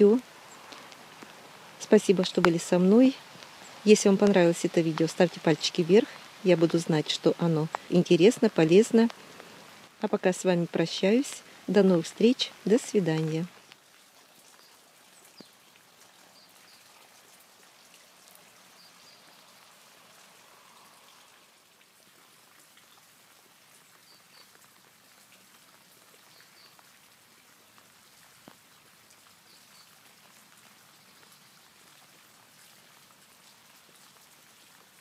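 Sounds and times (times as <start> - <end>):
light rain on pond water: 0.0 - 35.0.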